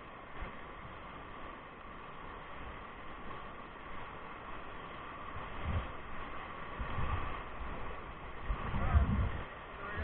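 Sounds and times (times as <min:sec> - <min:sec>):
whitewater rapids rushing: 0:00.0 - 0:10.0.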